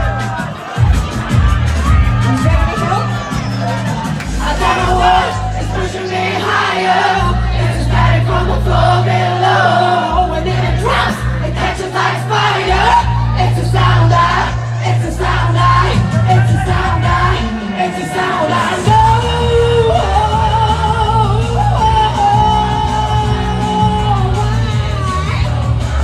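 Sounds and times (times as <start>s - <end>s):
crowd noise: 0.0s - 26.0s
live pop music with vocals: 0.0s - 26.0s.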